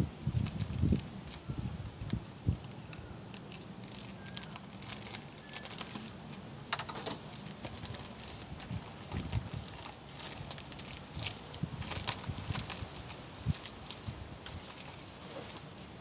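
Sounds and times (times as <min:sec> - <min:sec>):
plastic wrapping crinkling: 0:00.4 - 0:16.0.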